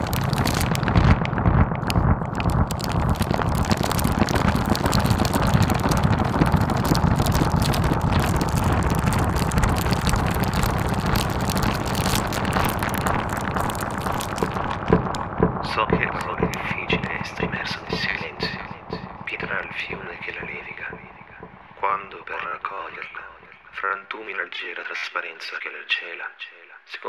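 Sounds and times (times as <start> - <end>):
steady low rumble: 0.0 - 24.2
dense crackling noise: 0.0 - 27.0.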